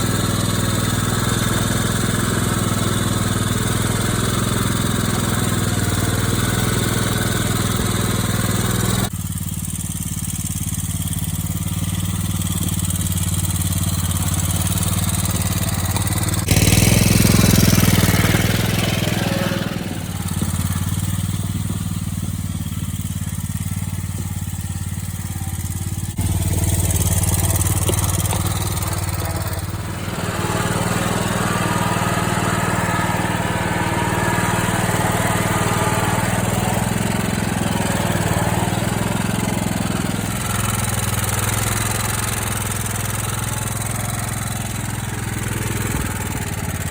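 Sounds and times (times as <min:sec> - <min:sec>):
riding lawn mower engine running: 0:00.0 - 0:46.9.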